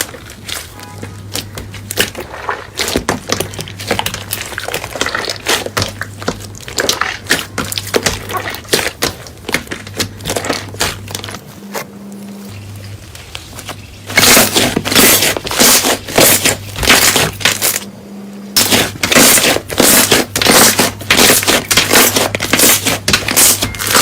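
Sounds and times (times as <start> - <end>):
slime squelching by hand: 0.0 - 17.9, 18.5 - 24.0.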